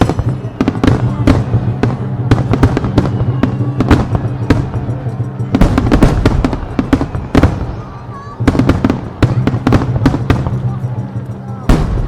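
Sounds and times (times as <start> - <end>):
fireworks bangs: 0.0 - 11.0, 11.7 - 12.0
music playing: 0.0 - 12.0.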